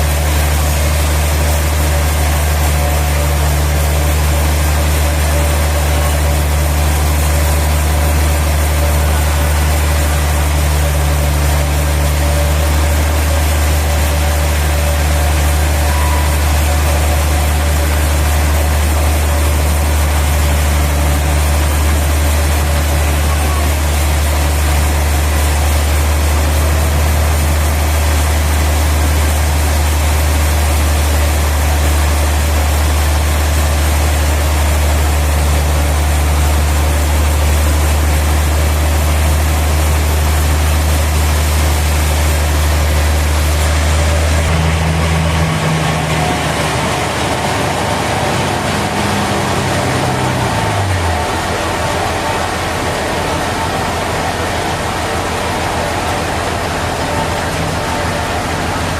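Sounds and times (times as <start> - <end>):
sawmill machinery droning: 0.0 - 58.9.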